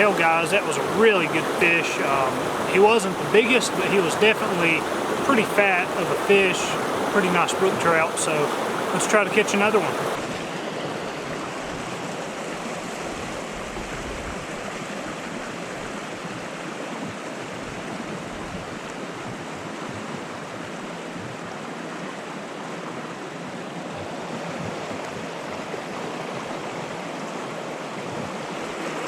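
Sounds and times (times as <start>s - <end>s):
creek flowing over rocks: 0.0s - 29.0s.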